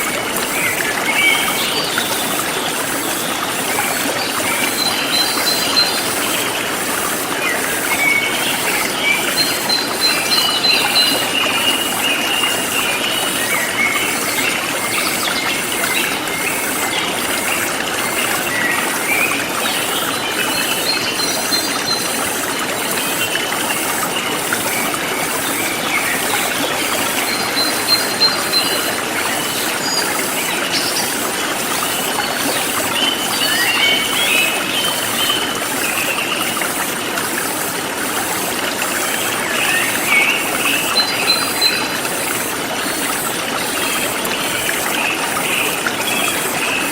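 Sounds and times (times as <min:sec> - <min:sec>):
stream flowing: 0:00.0 - 0:46.9.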